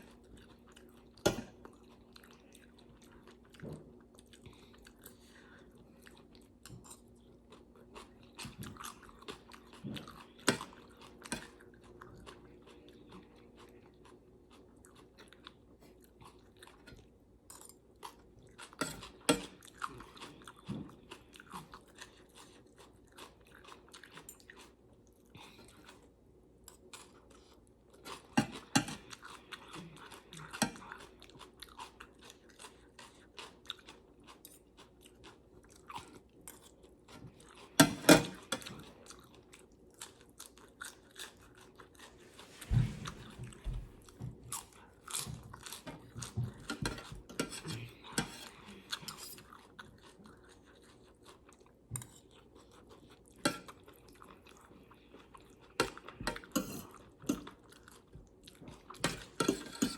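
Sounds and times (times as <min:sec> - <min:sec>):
person chewing and crunching: 0:00.0 - 0:59.9.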